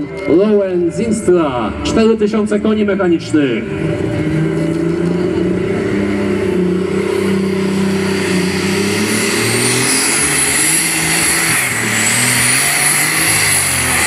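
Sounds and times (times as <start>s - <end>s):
high whine: 0.0s - 14.0s
tractor engine running hard: 0.0s - 14.0s.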